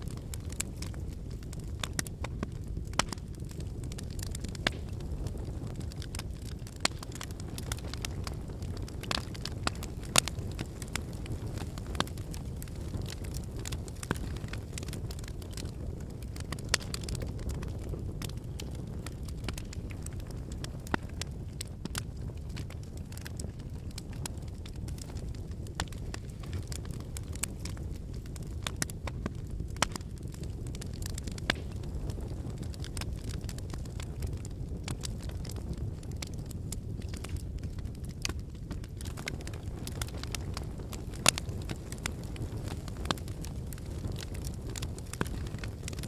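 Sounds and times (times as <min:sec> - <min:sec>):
burning logs crackling and popping: 0:00.0 - 0:46.0
campfire flames rushing: 0:00.0 - 0:46.0.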